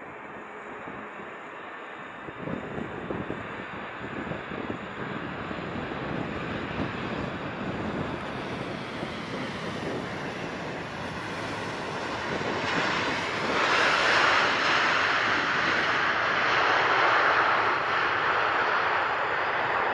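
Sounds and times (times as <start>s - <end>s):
jet engines rushing: 0.1s - 19.9s.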